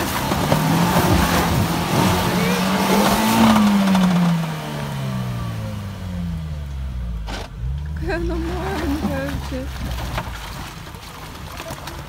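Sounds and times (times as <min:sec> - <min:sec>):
vehicle engine revving: 0:00.0 - 0:11.3.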